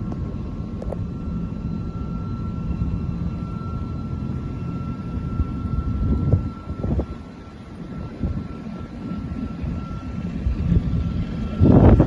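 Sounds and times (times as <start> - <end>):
faint high whine: 0.0 - 12.0
low mechanical hum: 0.0 - 12.0.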